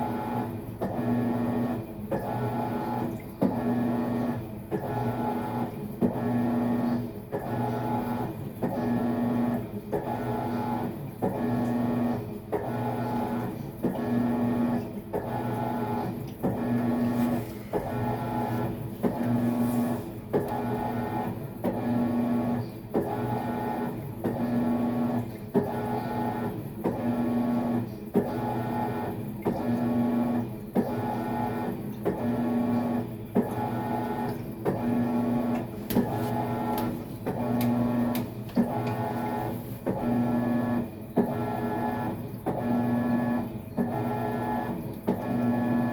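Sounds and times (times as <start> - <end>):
washing machine motor whirring: 0.0 - 45.9.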